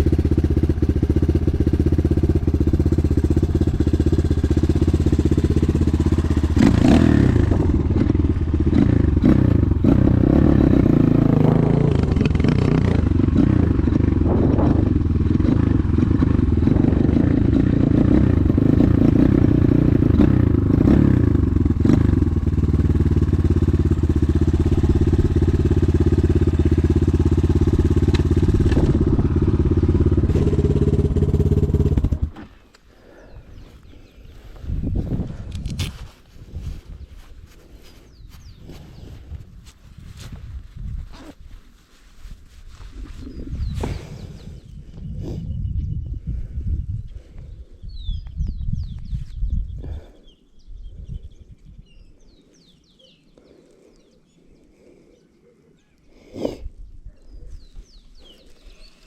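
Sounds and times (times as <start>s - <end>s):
motorcycle engine running: 0.0s - 47.5s.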